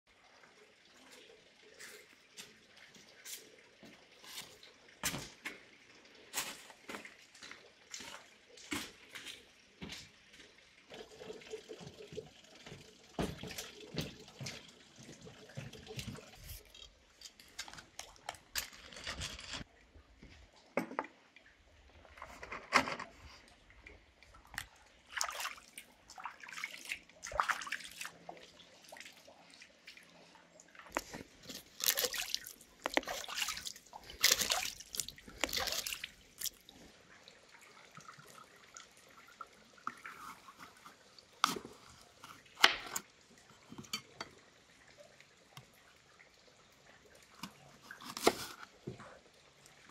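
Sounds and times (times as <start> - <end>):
water splashing and dripping: 0.1 - 49.9.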